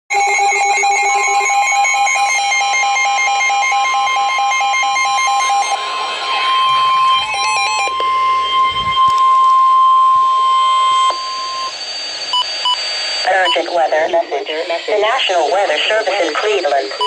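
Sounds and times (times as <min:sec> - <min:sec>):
rapid electronic alert beeps: 0:00.1 - 0:17.0
steady high electronic tone: 0:00.1 - 0:17.0.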